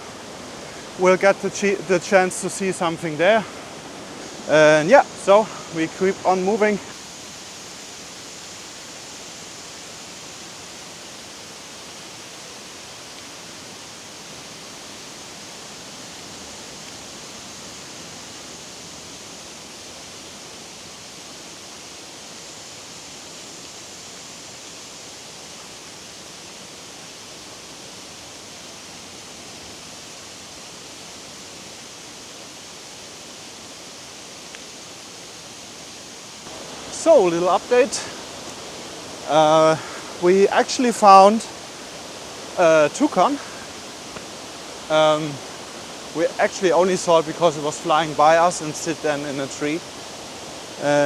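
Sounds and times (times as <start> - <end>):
falling water hiss: 0.0 - 51.0.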